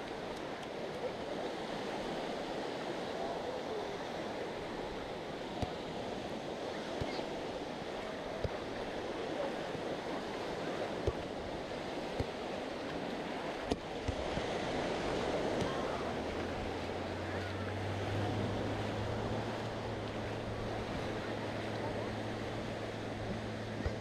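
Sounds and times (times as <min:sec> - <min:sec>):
low engine hum: 0:00.0 - 0:24.0
surf washing onto a beach: 0:00.0 - 0:24.0.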